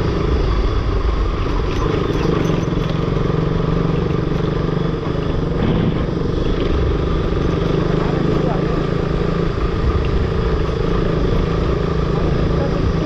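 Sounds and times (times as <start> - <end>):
motorcycle engine running: 0.0 - 13.0
road and wind rush: 0.0 - 13.0.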